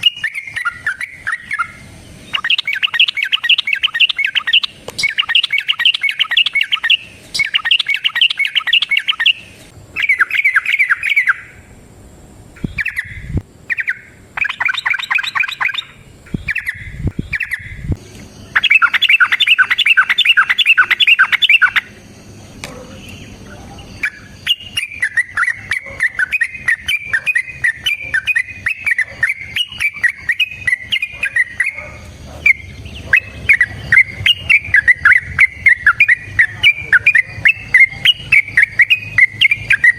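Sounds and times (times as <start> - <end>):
bird chattering song: 0.0 - 11.7, 12.5 - 39.9.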